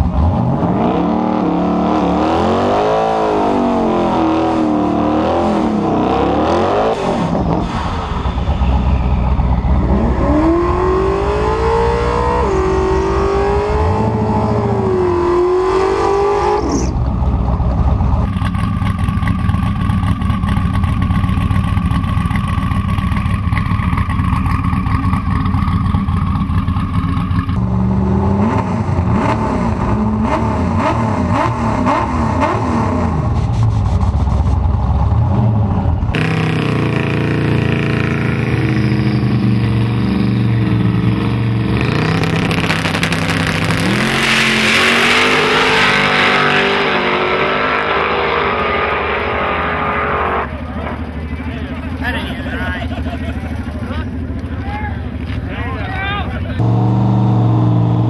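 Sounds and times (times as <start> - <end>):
drag car engine revving: 0.0 - 58.0.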